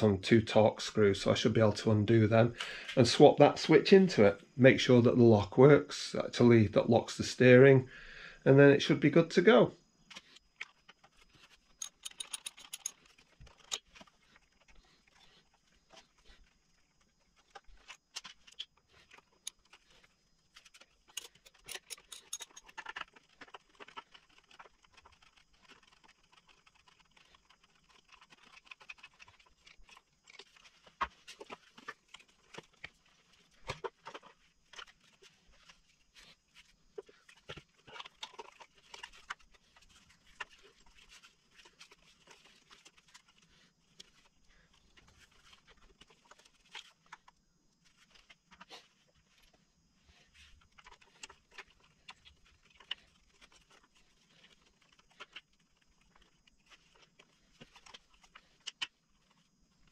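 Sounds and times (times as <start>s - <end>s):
clicks and rustles of wiring handling: 10.0s - 59.9s.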